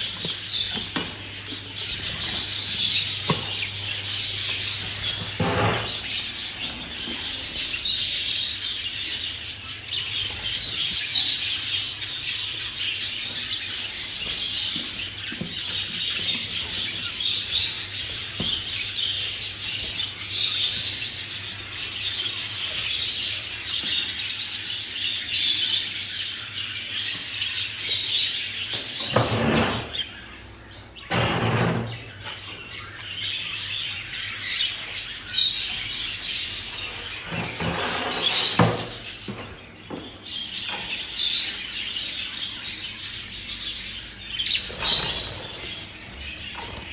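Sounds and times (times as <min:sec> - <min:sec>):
budgerigars chattering and chirping: 0:00.0 - 0:46.9.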